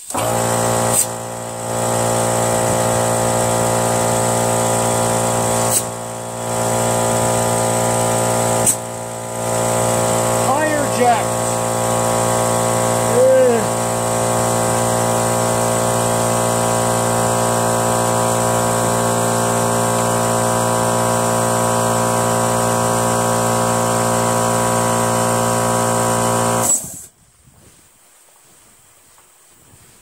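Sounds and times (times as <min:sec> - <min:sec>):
electric motor machine humming: 0:00.1 - 0:27.0.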